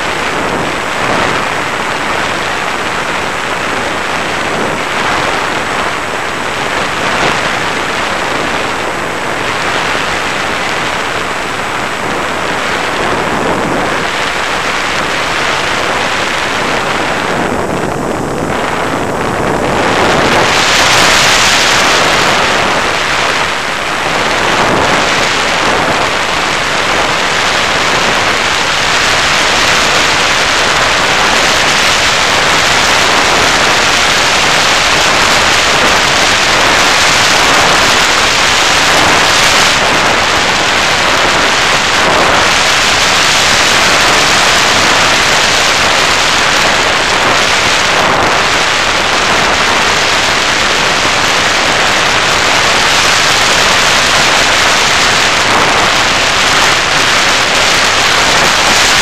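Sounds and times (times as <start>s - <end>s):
air rushing over microphone: 0.0s - 59.0s.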